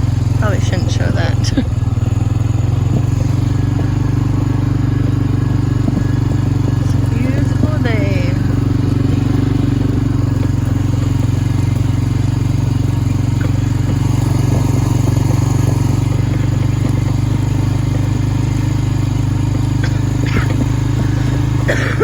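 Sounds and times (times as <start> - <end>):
four-wheeler engine running: 0.0 - 22.0.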